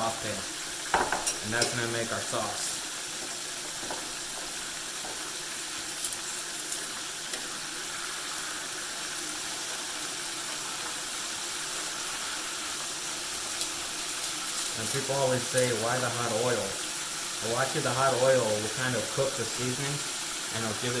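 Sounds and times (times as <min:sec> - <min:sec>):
oil sizzling in a skillet: 0:00.0 - 0:21.0.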